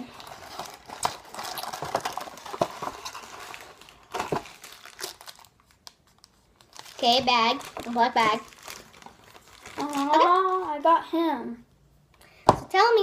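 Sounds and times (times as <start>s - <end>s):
cardboard packaging crinkling: 0.0s - 10.8s.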